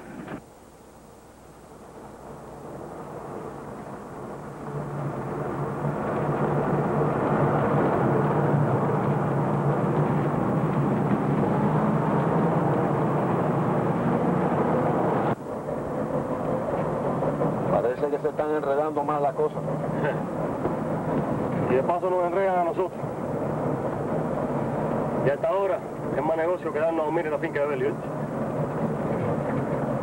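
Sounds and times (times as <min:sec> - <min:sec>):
vehicle engine running: 0:01.6 - 0:30.0.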